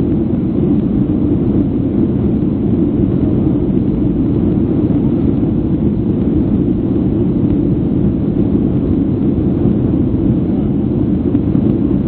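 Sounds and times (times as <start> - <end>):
airplane cabin low roar: 0.0 - 12.0.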